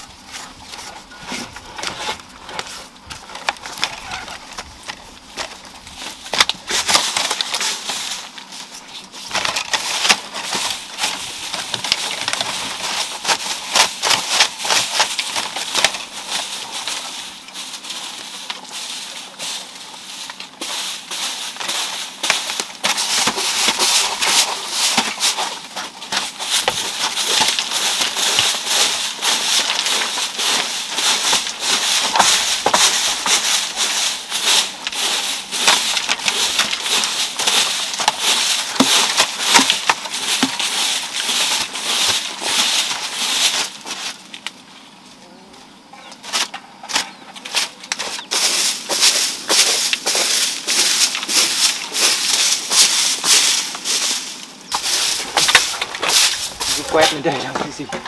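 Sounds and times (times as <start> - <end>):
broom scraping thatched roof: 0.0 - 58.0.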